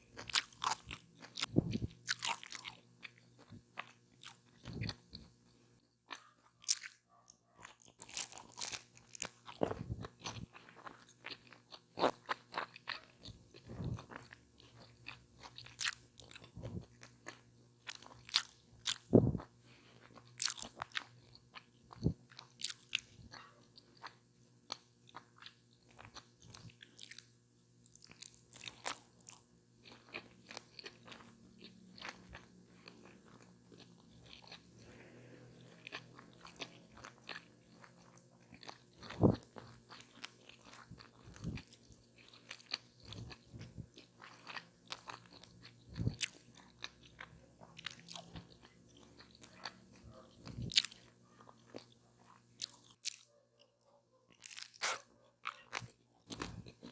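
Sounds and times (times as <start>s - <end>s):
crunching and chewing taco: 0.0s - 56.9s.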